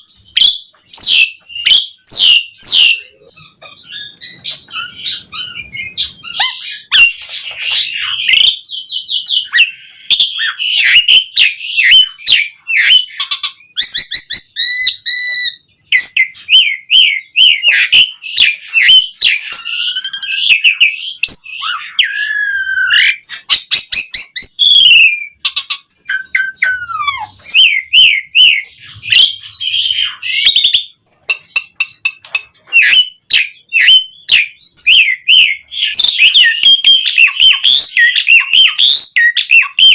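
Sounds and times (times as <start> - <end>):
starling singing chattering song: 0.0 - 39.9.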